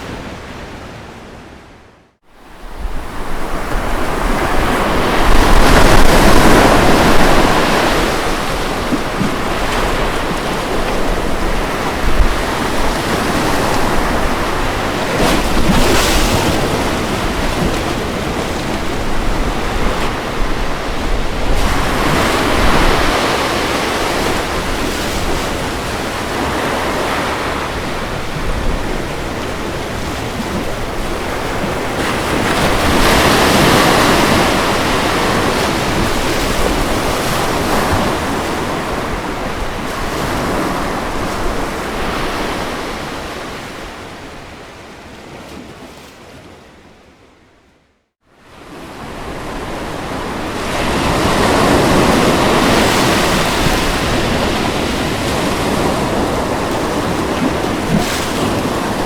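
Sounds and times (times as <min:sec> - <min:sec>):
ocean waves breaking on beach: 0:00.0 - 0:47.4, 0:48.2 - 0:59.0.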